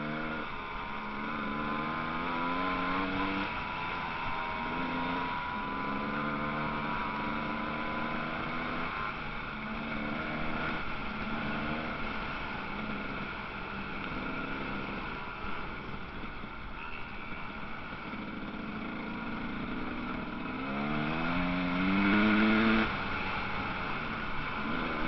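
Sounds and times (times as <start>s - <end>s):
motocross bike engines: 0.0s - 25.0s.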